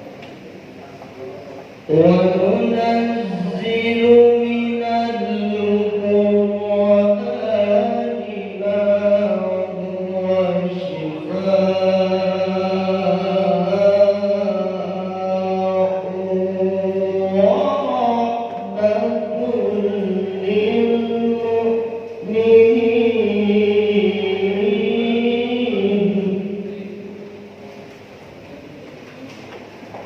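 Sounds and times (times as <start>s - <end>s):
male voice reciting melodically: 1.7s - 27.4s.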